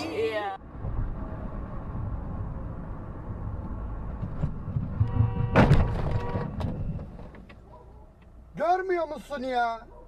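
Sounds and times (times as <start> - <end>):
vehicle road and engine rumble: 0.0 - 10.0.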